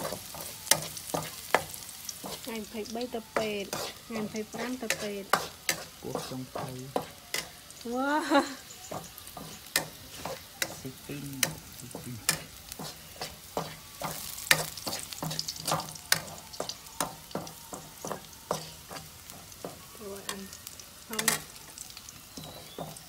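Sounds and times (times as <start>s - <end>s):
metal spatula scraping frying pan: 0.0s - 7.8s, 8.9s - 20.5s, 21.1s - 23.0s
food sizzling: 0.0s - 23.0s.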